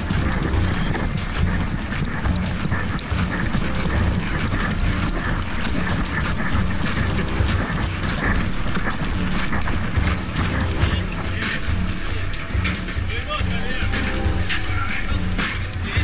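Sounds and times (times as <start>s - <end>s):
clatter: 0.0s - 16.0s
large vehicle engine rumbling: 0.0s - 16.0s
rustling: 0.0s - 16.0s.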